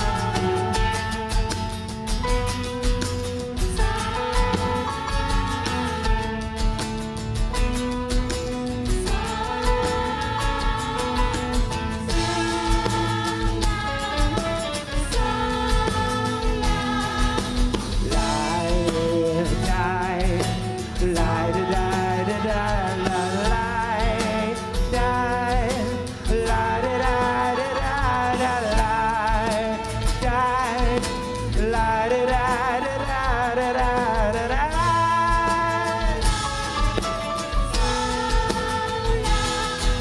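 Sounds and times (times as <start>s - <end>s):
people singing: 0.0s - 2.0s, 3.5s - 40.0s
live rock band playing: 0.0s - 40.0s.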